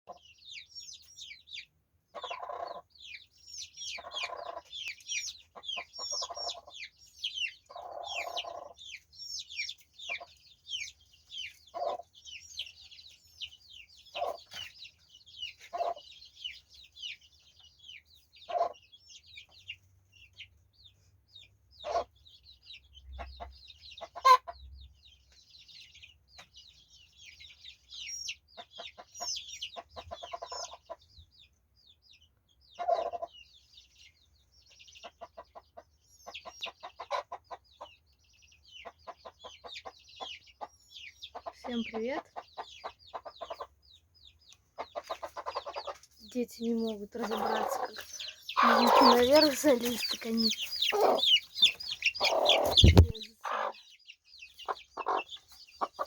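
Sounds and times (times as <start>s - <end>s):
hen clucking: 0.1s - 20.6s, 21.4s - 24.7s, 27.2s - 31.5s, 32.6s - 56.0s
chicks peeping: 0.1s - 56.0s.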